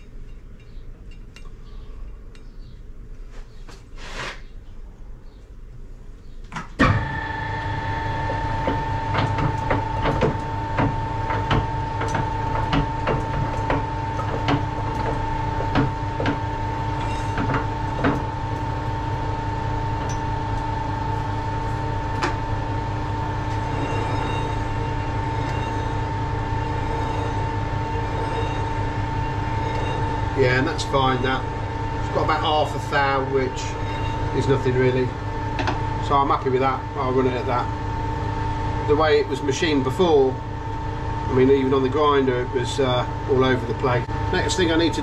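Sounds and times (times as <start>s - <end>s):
metal lathe whine and hum: 6.9s - 45.0s.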